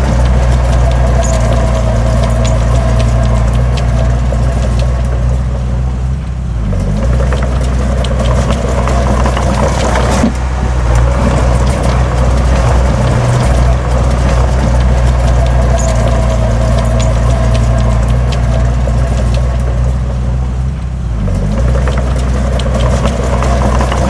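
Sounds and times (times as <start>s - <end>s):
diesel machinery engine running: 0.0s - 24.0s
metallic clanks: 0.0s - 24.0s.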